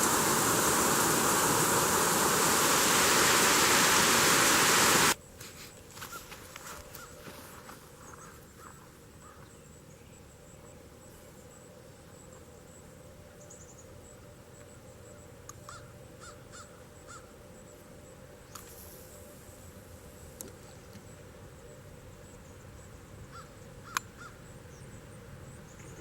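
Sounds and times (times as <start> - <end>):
low outdoor background hiss: 0.0 - 26.0.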